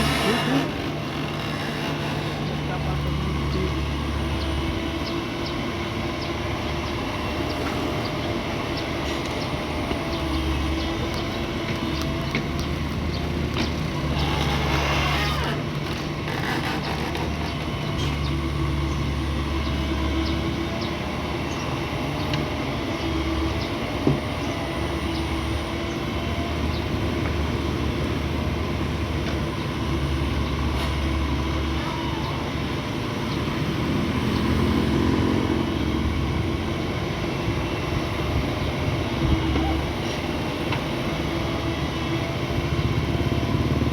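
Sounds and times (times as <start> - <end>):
excavator diesel engine: 0.0 - 43.9.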